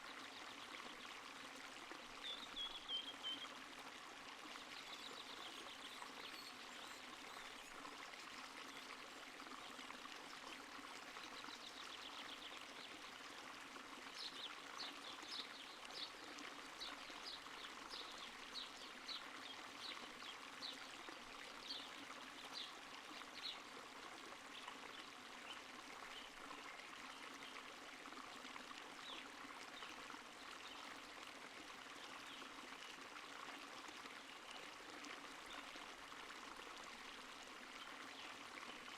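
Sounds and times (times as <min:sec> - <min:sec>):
small stream trickling: 0:00.0 - 0:38.9.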